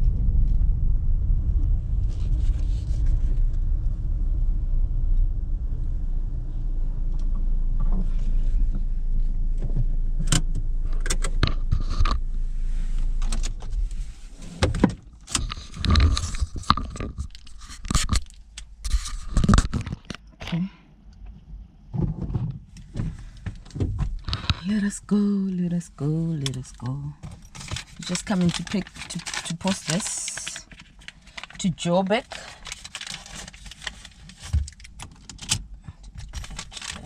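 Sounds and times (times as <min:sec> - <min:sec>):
steady low rumble: 0:00.0 - 0:19.8, 0:20.9 - 0:37.0.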